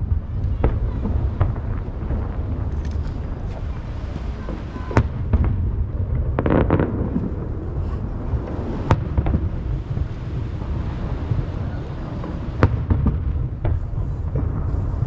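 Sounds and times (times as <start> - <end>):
fireworks crackling: 0.0 - 15.0
low rumble of echoing booms: 0.0 - 15.0.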